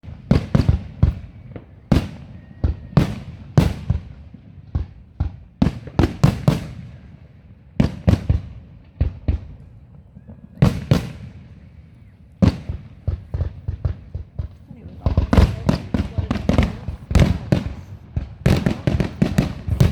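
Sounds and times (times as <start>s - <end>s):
fireworks bangs: 0.0s - 19.9s.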